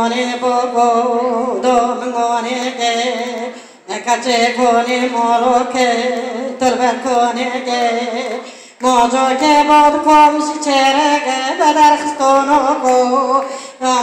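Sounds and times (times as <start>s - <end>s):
woman singing: 0.0s - 14.0s.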